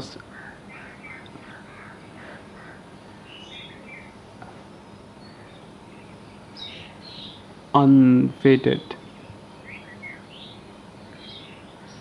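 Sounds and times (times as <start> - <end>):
outdoor ambient hiss: 0.0 - 12.0
bird chirps: 0.3 - 7.5, 8.2 - 12.0.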